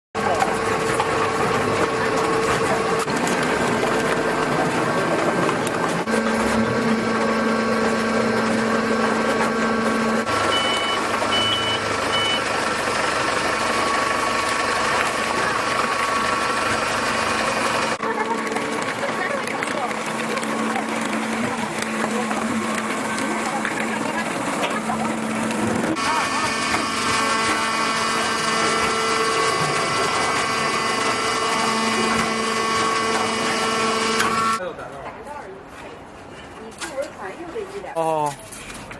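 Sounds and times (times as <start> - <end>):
hydraulic baler running: 0.2 - 34.6.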